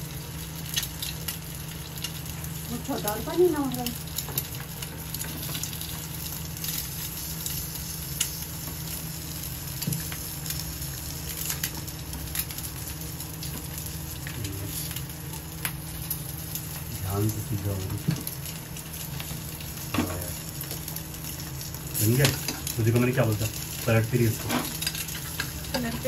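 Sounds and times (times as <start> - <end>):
eggs sizzling in a frying pan: 0.0 - 26.0.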